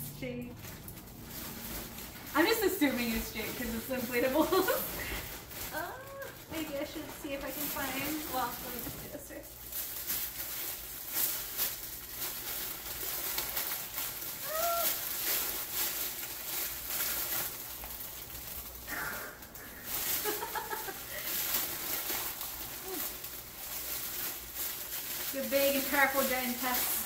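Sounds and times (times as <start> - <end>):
packaging crinkling and rustling: 0.5 - 27.0.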